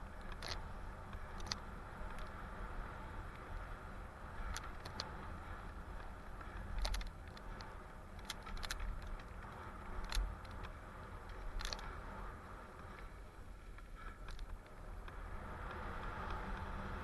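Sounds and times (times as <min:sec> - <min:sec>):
bike rattling over bumps: 0:00.0 - 0:17.0
bike tyres rolling on dirt: 0:00.0 - 0:17.0.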